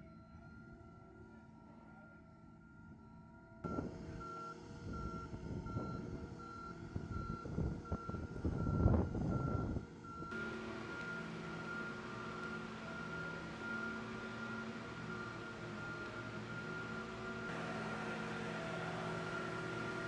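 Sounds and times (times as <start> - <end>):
vehicle rumbling: 3.6 - 20.0.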